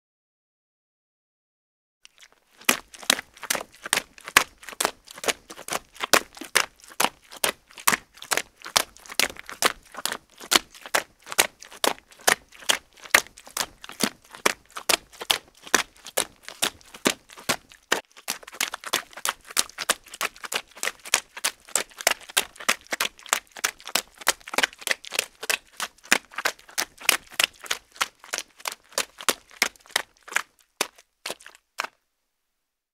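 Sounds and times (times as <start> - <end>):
footsteps running through mud: 2.1 - 32.0.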